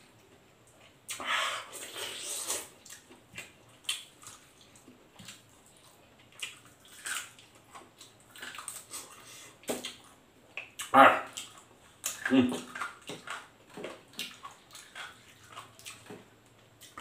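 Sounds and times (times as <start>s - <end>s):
wet chewing and lip-smacking: 0.7s - 17.0s.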